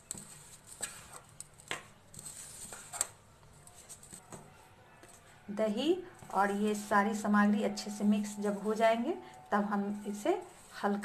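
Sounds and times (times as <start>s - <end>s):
hand mixing dough in metal bowl: 0.0s - 11.0s.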